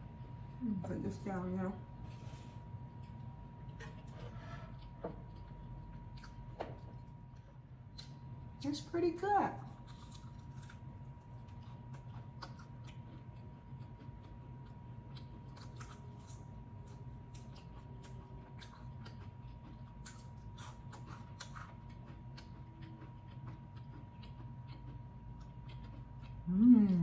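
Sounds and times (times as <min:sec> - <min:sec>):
faint steady hum: 0:00.0 - 0:27.0
crunchy chewing: 0:02.9 - 0:08.2, 0:09.6 - 0:27.0.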